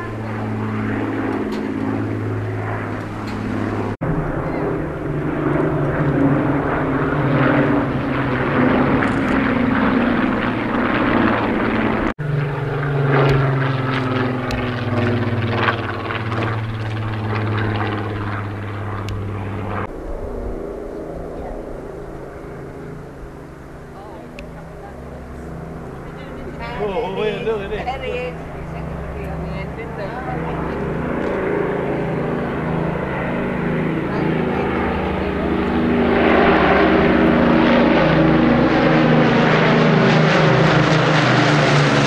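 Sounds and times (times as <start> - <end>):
propeller plane engines droning: 0.0 - 42.0.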